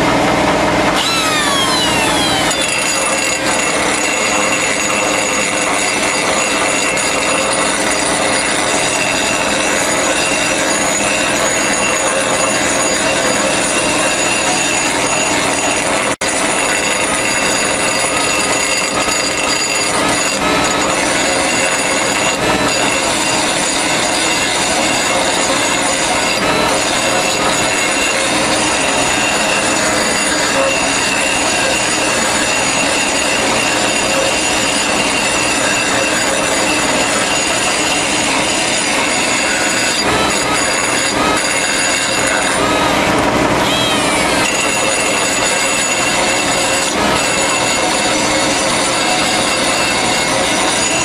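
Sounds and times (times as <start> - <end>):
die grinder whine on steel: 0.0 - 51.0.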